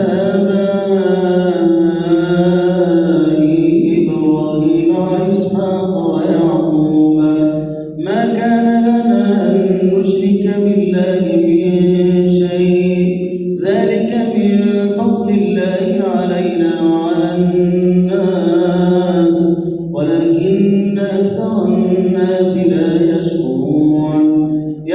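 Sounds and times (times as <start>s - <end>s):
man chanting melodically: 0.0s - 24.9s.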